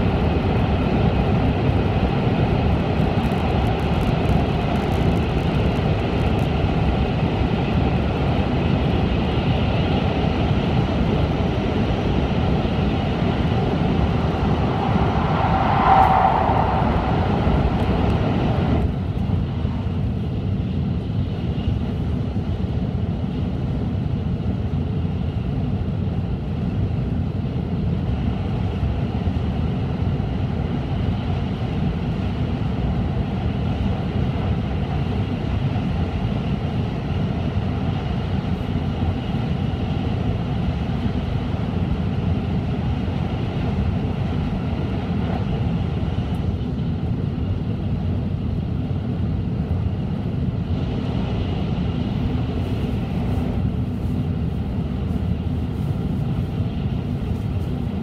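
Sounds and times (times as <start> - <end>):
train cabin rumble and rush: 0.0 - 58.0.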